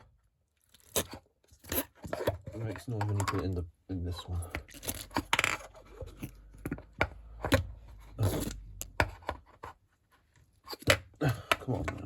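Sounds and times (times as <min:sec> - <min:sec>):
putty clicks and scraping: 0:00.6 - 0:03.6, 0:04.3 - 0:12.0.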